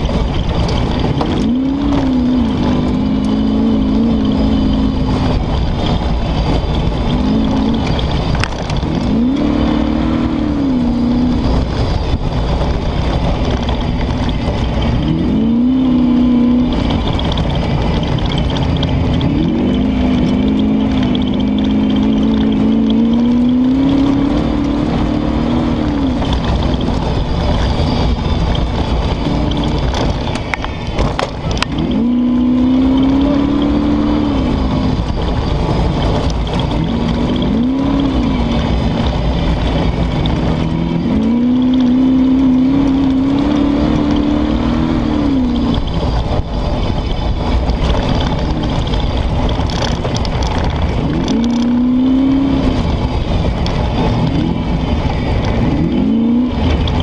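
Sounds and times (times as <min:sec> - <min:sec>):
car engine revving: 0:00.0 - 0:57.0
road and body noise: 0:00.0 - 0:57.0.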